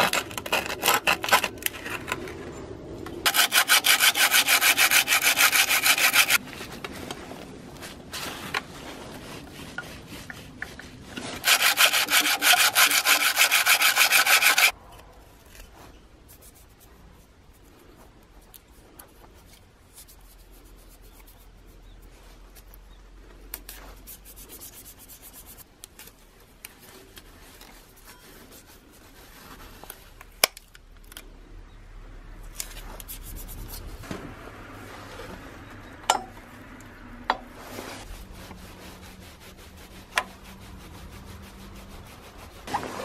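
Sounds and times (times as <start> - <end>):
rubbing and scraping handling noises: 0.0 - 31.4, 32.4 - 43.0.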